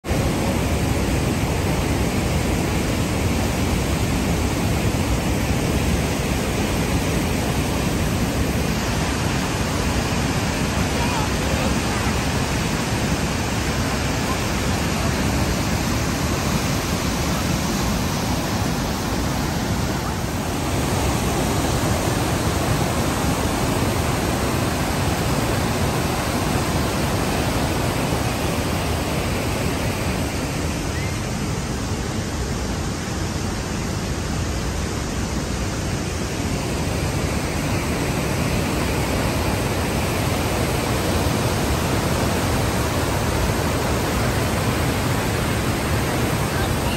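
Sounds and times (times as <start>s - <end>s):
waterfall and rapids rushing: 0.0s - 46.9s.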